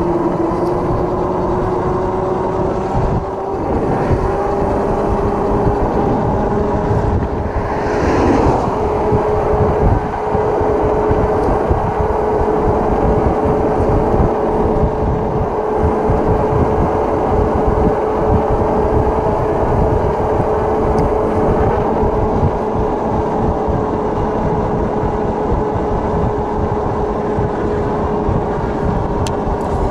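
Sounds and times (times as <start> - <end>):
hub motor whine: 0.0 - 29.9
wind buffeting camera: 0.0 - 29.9.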